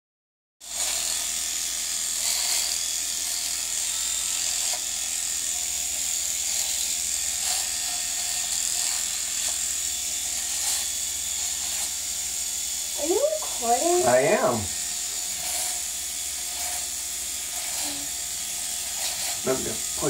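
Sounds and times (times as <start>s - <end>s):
electric shaver buzzing: 0.6s - 20.0s.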